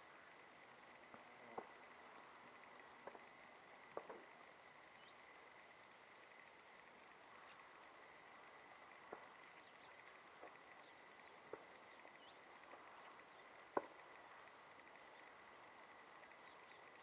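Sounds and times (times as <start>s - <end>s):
distant bird chirps: 1.4s - 6.5s, 7.3s - 17.0s.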